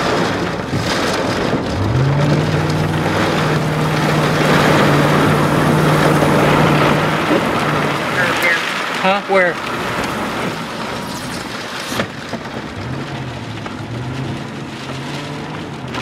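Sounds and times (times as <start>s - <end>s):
low engine hum: 0.0s - 16.0s
rain and road noise: 0.0s - 16.0s
wind: 0.0s - 16.0s.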